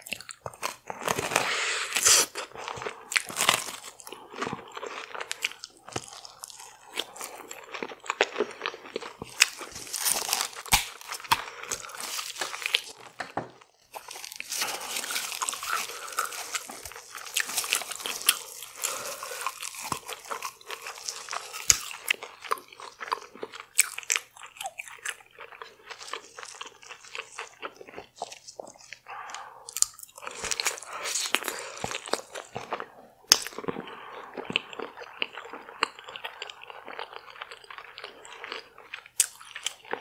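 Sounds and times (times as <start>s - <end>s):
crunchy bites and chewing: 0.0s - 40.0s.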